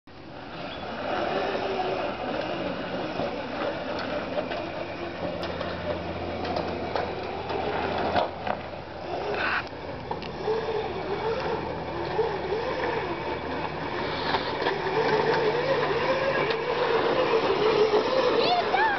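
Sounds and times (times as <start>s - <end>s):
electric motor and chain whirring: 0.2s - 18.9s.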